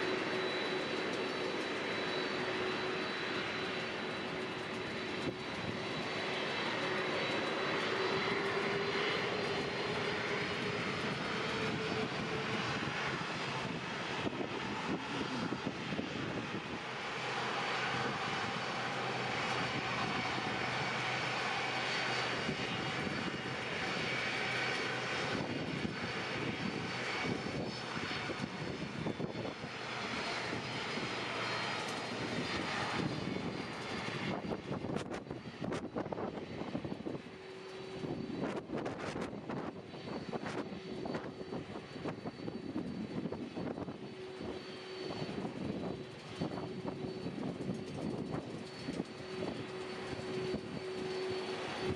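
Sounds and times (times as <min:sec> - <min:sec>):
airliner engines rushing and whining: 0:00.0 - 0:51.9.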